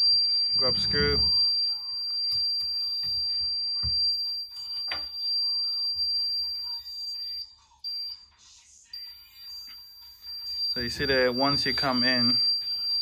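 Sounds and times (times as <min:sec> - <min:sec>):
high-pitched buzzer beep: 0:00.0 - 0:08.3, 0:08.9 - 0:13.0.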